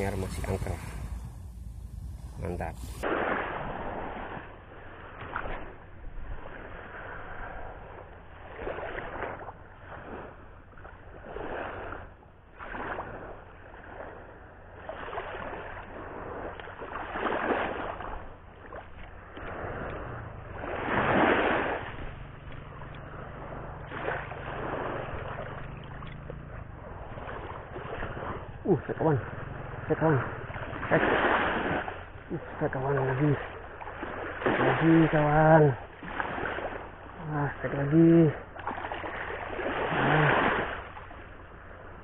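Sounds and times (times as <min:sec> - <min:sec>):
low steady hum: 0:00.0 - 0:03.1, 0:04.5 - 0:42.0
sea waves washing onto shore: 0:00.0 - 0:42.0.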